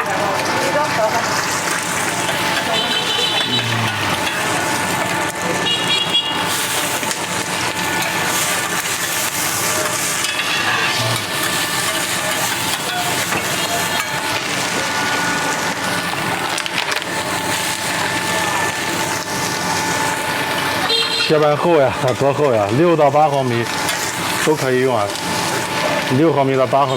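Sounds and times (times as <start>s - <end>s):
food sizzling on griddle: 0.0s - 26.9s.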